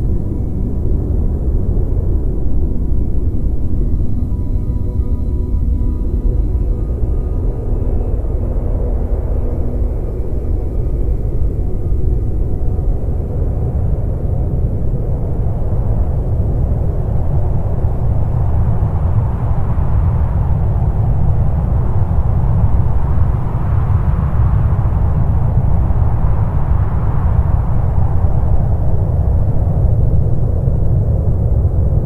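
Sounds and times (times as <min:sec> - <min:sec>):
dark ambient drone: 0:00.0 - 0:32.0.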